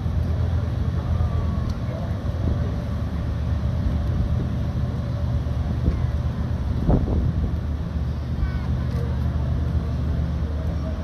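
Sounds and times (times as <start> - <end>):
riverboat engine rumbling: 0.0 - 11.0.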